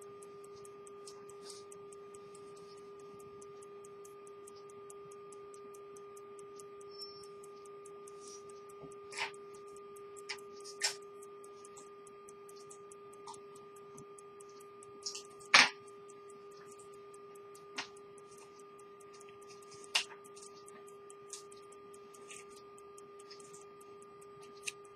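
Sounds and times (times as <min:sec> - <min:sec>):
pocket watch ticking fast: 0:00.0 - 0:24.9
sharp clicks: 0:00.0 - 0:24.9
steady background hum: 0:00.0 - 0:24.9.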